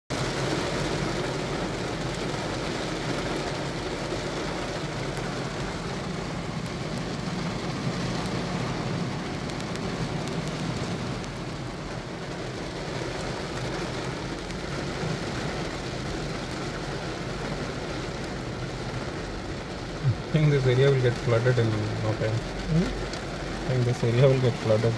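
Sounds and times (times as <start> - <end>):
car low hum: 0.1 - 24.9
heavy rain on car roof: 0.1 - 24.9.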